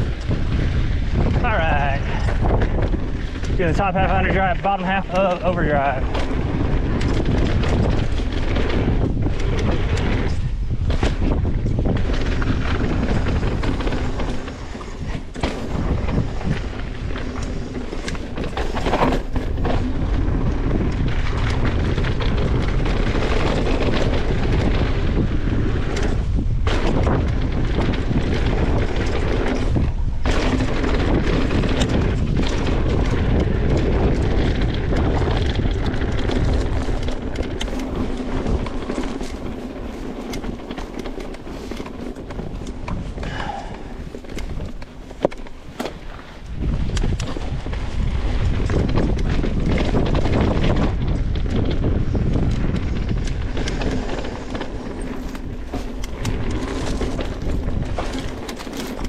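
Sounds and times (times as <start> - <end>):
bike knocking and rattling: 0.0 - 59.0
bike tyres on dirt trail: 0.0 - 59.0
wind buffeting microphone: 0.0 - 59.0.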